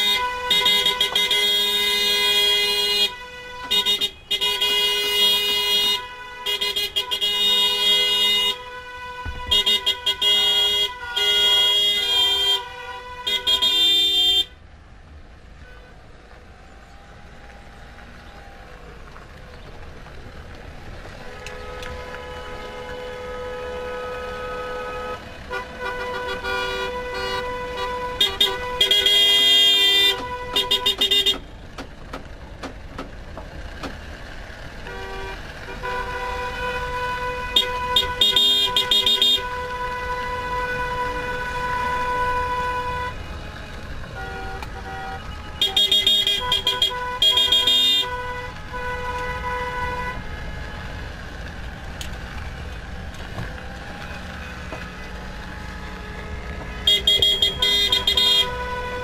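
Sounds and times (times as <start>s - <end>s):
car horns honking: 0.0s - 14.6s, 21.2s - 50.6s, 54.2s - 59.0s.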